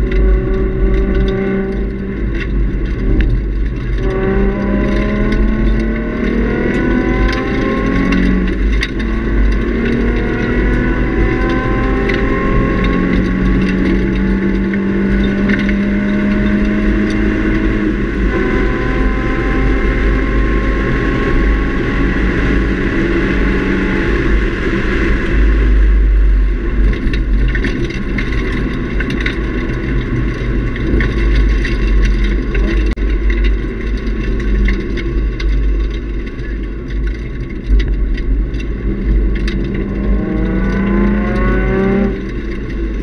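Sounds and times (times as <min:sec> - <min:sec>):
car engine accelerating: 0:00.0 - 0:43.0
road and wind noise rumble: 0:00.0 - 0:43.0.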